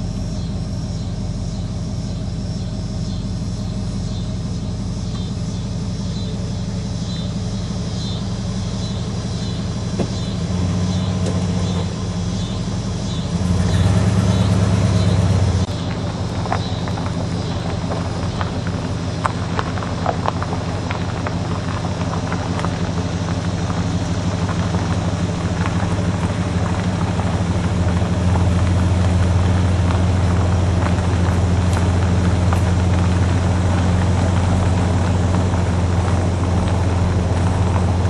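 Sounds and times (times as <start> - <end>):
car engine idling: 0.0 - 38.0
ticks and crackles: 0.1 - 38.0.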